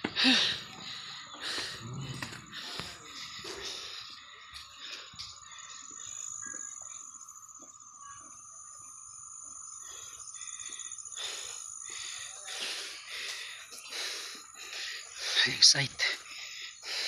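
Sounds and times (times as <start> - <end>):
high-pitched insect drone: 0.2 - 17.0.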